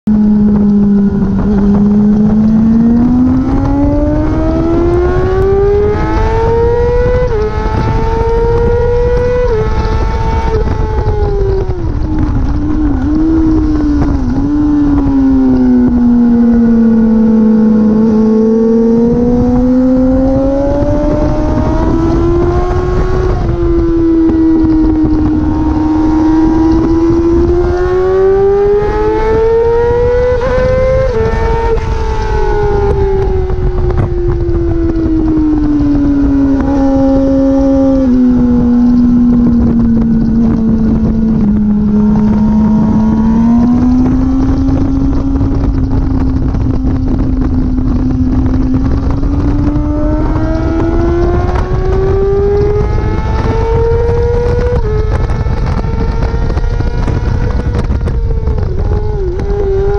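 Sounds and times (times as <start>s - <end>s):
motorcycle engine revving: 0.0s - 59.9s
wind rush on microphone: 0.1s - 59.9s.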